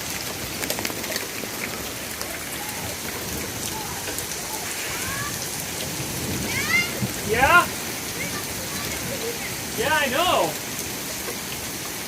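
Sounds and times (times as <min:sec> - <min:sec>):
sharp raindrops striking: 0:00.0 - 0:12.0
torrential rain pouring: 0:00.0 - 0:12.0.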